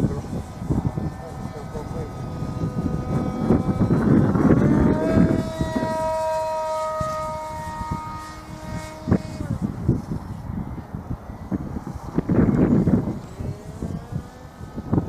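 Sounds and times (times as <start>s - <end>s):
model plane motor whining: 0.0s - 15.0s
wind buffeting microphone: 0.0s - 15.0s.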